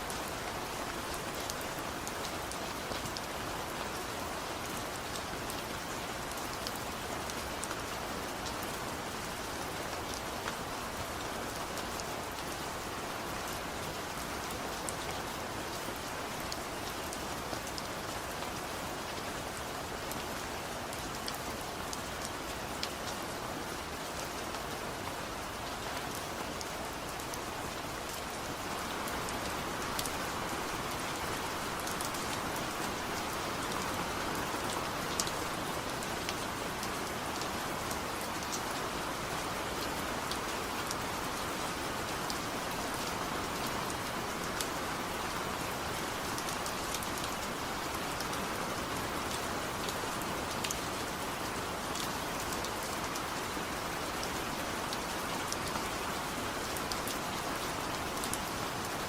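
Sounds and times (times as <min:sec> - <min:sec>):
raindrops ticking on a surface: 0:00.0 - 0:59.0
steady rain hiss: 0:00.0 - 0:59.0.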